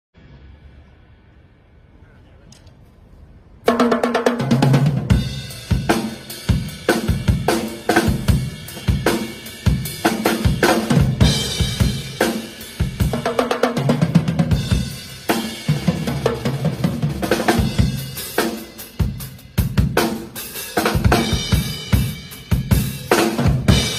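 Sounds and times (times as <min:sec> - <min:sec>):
rock drum kit groove: 0:03.7 - 0:23.9.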